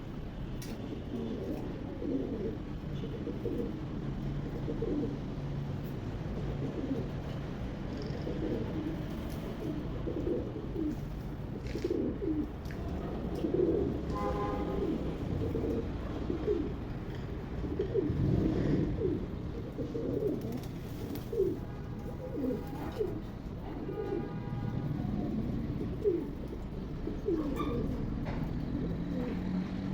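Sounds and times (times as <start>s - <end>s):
pigeons cooing: 0.9s - 24.3s, 25.0s - 29.9s.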